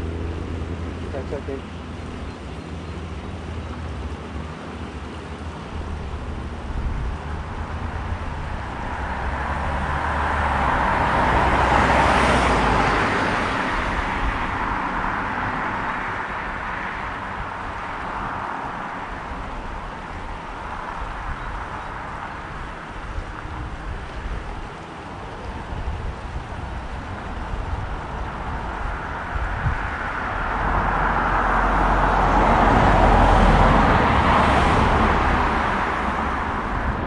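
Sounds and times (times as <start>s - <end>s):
steady traffic hiss: 0.0s - 37.0s
vehicle passing: 0.0s - 37.0s.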